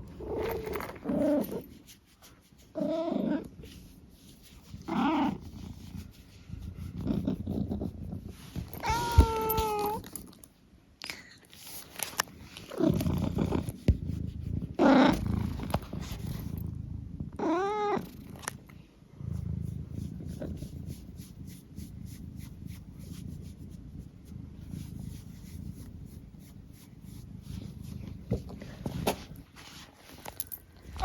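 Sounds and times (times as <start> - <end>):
cat purring: 0.0 - 10.5, 12.2 - 29.6, 30.5 - 31.0.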